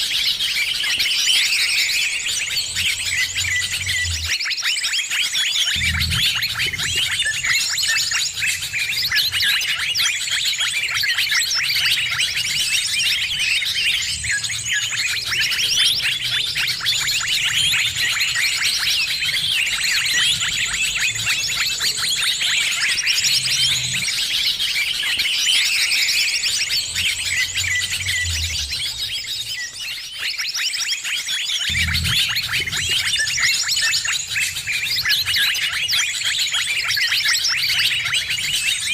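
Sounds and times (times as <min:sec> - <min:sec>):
chorus of small birds chirping: 0:00.0 - 0:38.9.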